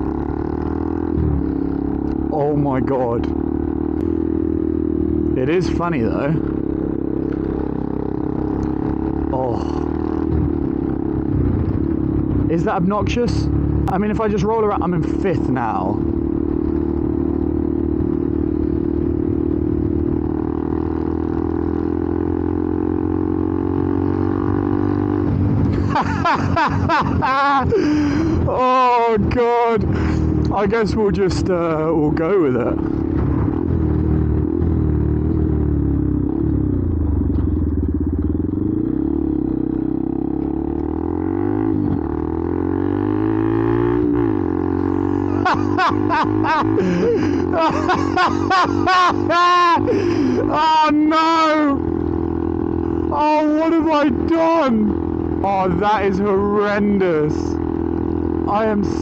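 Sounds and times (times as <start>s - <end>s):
motorcycle engine running loud: 0.0s - 59.0s.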